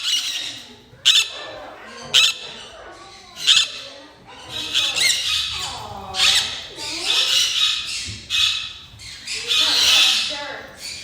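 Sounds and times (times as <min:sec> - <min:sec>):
birds chattering: 0:00.0 - 0:11.0
parrots squawking: 0:00.0 - 0:11.0.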